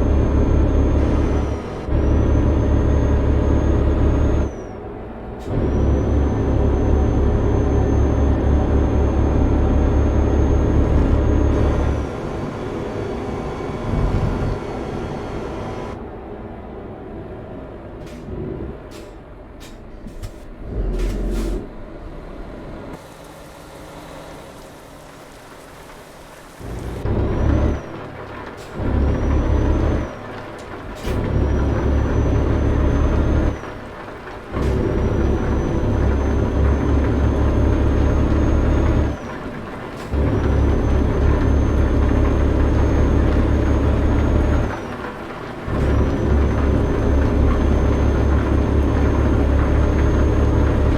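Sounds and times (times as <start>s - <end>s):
truck diesel engine accelerating: 0.0s - 50.9s.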